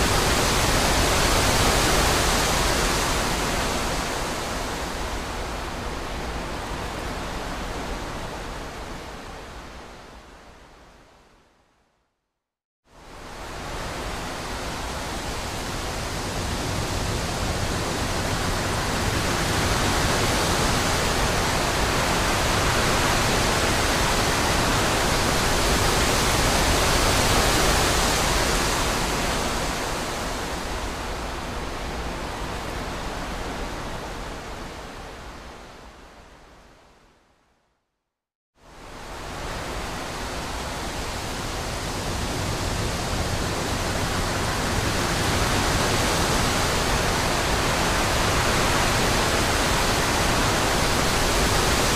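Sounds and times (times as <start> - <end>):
wind rushing through trees: 0.0 - 11.9, 12.8 - 37.7, 38.6 - 51.9.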